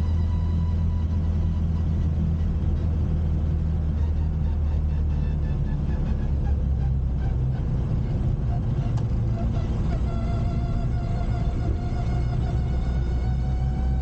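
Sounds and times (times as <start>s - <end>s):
car engine droning: 0.0s - 14.0s
thin whine: 0.0s - 14.0s.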